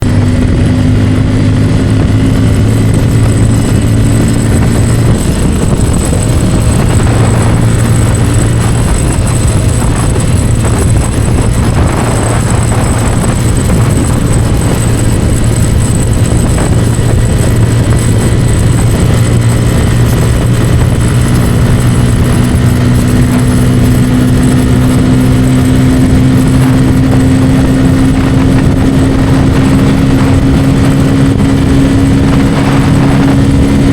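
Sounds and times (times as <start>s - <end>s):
motorcycle engine at high revs: 0.0s - 33.9s
wind noise: 0.0s - 33.9s.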